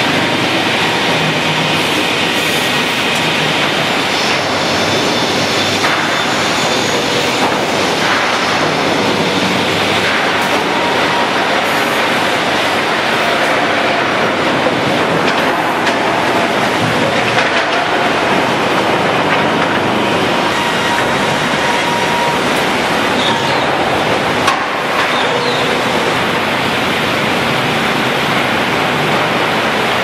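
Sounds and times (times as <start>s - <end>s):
conveyor machinery rumble and rattle: 0.0s - 30.0s.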